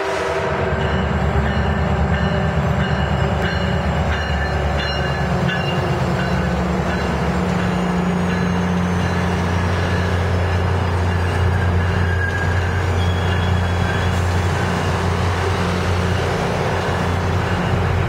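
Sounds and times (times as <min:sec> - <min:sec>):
diesel locomotive engine: 0:00.0 - 0:18.0
train wheels on rails: 0:00.0 - 0:18.0.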